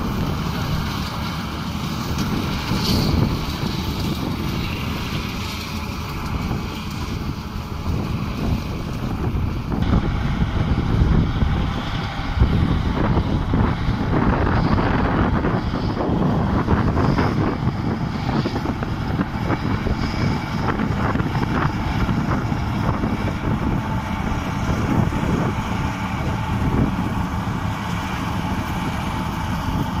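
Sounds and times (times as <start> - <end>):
distant tractor engine: 0.0 - 30.0
wind buffeting microphone: 0.0 - 30.0.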